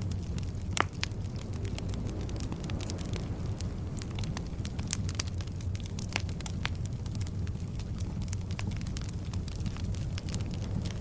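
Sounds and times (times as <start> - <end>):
firewood crackling and popping: 0.0 - 11.0
low rumble of flames: 0.0 - 11.0.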